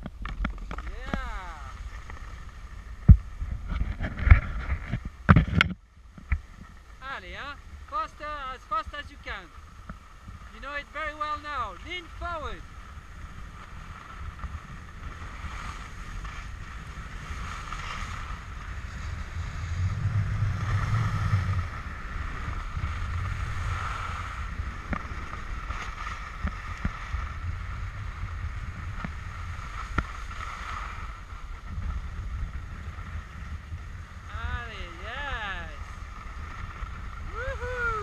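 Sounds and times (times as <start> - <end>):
wind buffeting microphone: 0.0 - 5.8, 12.9 - 38.0
skis scraping over snow: 0.3 - 5.3, 6.4 - 38.0.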